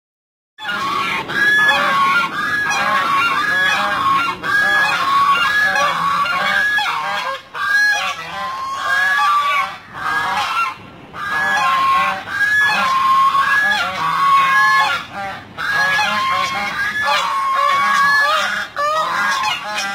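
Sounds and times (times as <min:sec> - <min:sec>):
geese honking: 0:00.6 - 0:19.9.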